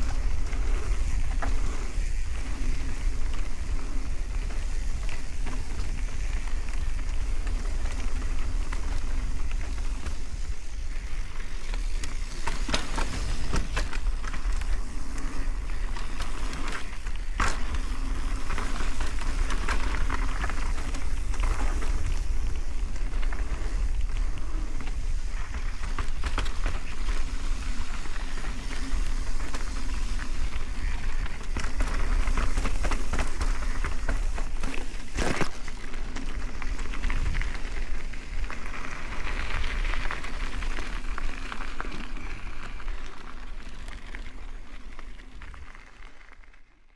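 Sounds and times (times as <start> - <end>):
bike clattering over roots: 0.0 - 37.8
tyres hissing on dirt: 0.0 - 42.5.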